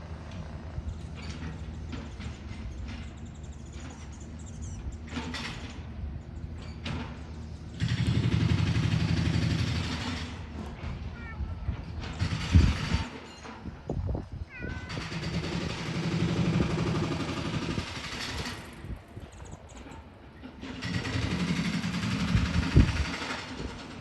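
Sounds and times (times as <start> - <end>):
mechanical rumble: 0.0 - 24.0.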